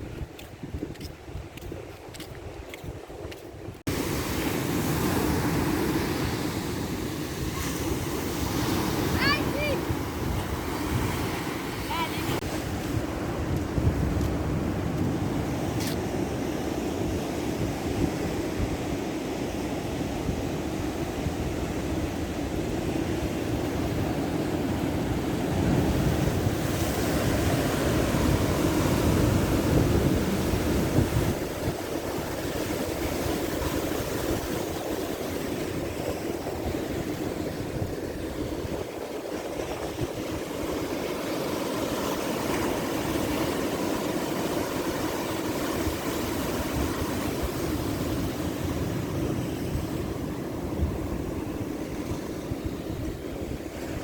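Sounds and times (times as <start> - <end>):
waves breaking on shore: 0.0 - 54.0.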